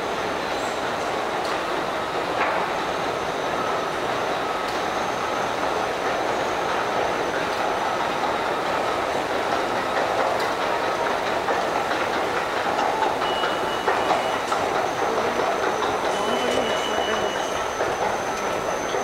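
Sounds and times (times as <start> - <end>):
mechanical rumble with clatter: 0.0 - 19.0.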